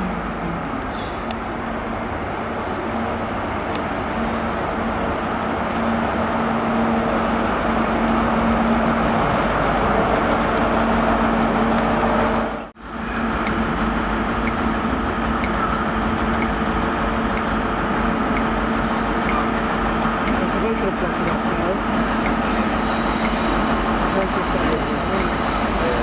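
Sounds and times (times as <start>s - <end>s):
diesel train engine drone: 0.0s - 26.0s.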